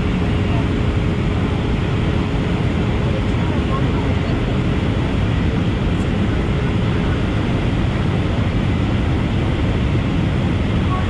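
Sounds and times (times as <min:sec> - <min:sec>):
jet airliner cabin noise: 0:00.0 - 0:11.0.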